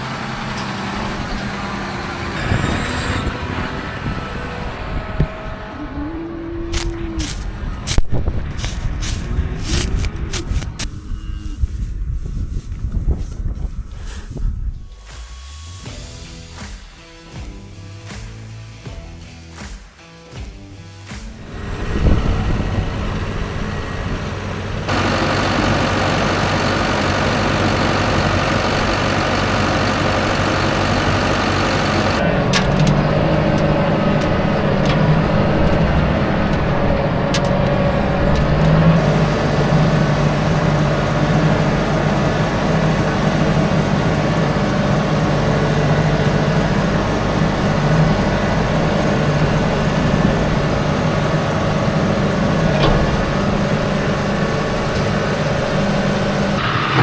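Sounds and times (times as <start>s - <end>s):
heavy vehicle engine running: 0.0s - 16.6s, 21.3s - 57.0s.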